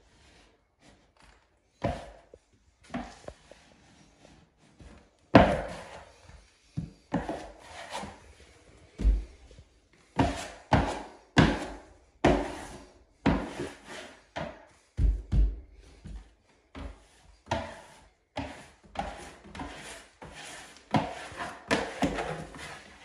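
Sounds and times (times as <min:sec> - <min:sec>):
wallpaper smoother scraping: 0:00.0 - 0:01.2, 0:02.8 - 0:14.6, 0:16.7 - 0:23.0.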